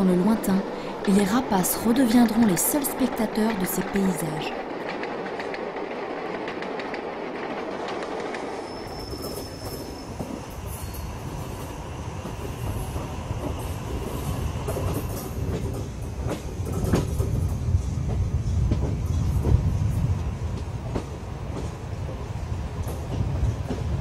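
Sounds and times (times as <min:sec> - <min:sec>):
train rumbling: 0:00.0 - 0:24.0
wheels clicking on rails: 0:00.0 - 0:24.0.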